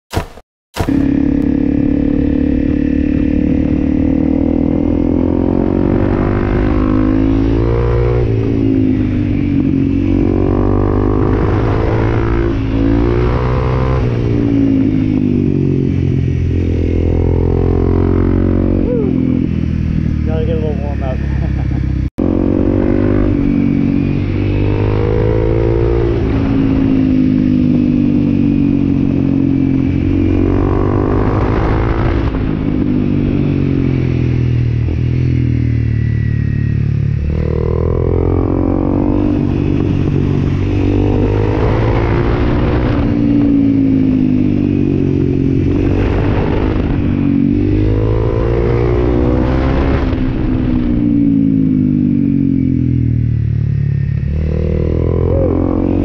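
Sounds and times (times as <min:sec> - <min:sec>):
motorcycle engine accelerating: 0:00.1 - 0:56.0.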